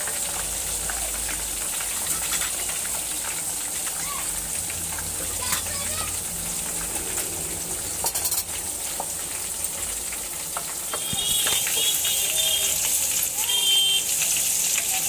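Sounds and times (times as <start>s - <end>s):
hot oil sizzling: 0.0s - 15.0s
oil crackles and pops: 0.0s - 15.0s.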